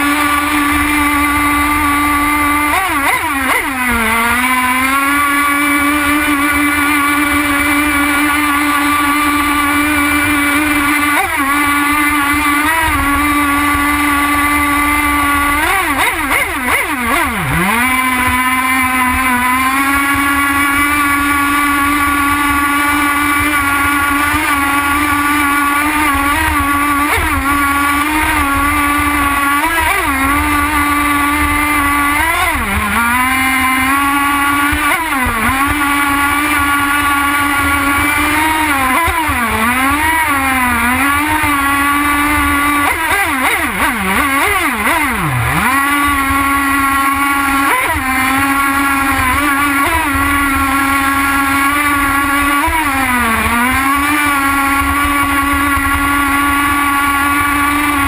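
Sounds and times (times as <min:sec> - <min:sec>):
model boat engine at high revs: 0:00.0 - 0:58.0.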